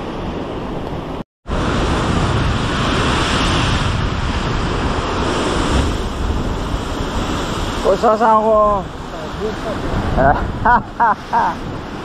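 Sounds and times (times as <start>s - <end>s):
surf washing on shore: 0.0s - 12.0s
wind buffeting microphone: 0.0s - 12.0s.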